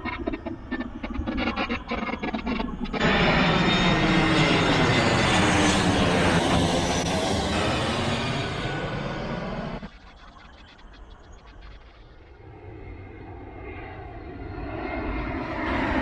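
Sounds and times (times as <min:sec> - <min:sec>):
jet airliner passing overhead: 0:00.0 - 0:10.0, 0:12.2 - 0:16.0.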